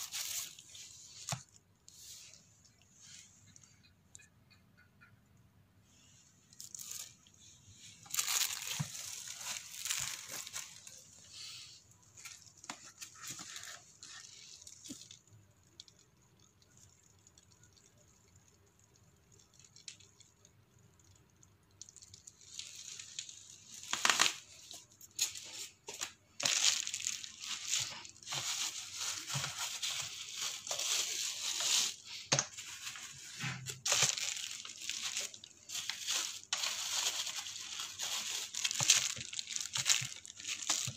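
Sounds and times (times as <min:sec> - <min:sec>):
plastic wrap crinkling: 0:00.0 - 0:03.8, 0:06.3 - 0:40.9.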